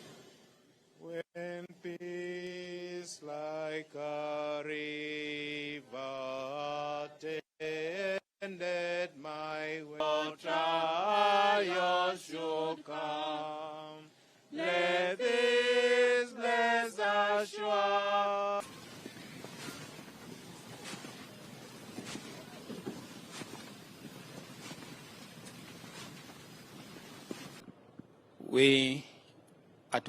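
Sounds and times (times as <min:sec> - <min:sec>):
voices singing a hymn: 0:01.0 - 0:27.6.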